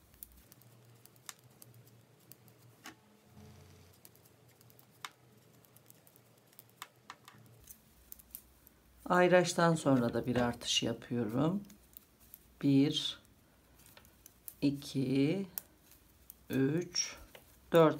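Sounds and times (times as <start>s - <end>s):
knitting needles clicking: 0.0s - 3.0s, 3.9s - 17.9s.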